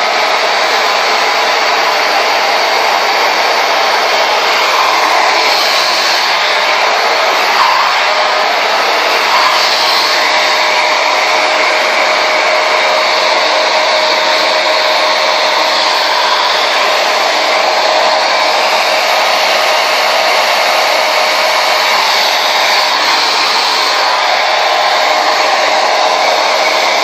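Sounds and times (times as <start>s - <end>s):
blow dryer air rushing: 0.0s - 27.0s.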